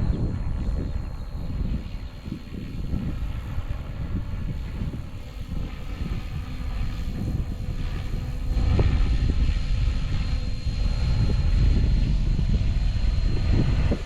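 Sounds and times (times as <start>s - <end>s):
model helicopter whine: 0.0s - 14.0s
wind buffeting microphone: 0.0s - 14.0s.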